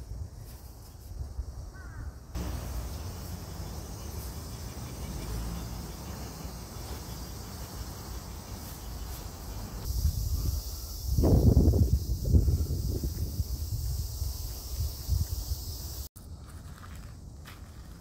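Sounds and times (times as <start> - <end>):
high insect chorus: 0.0 - 18.0.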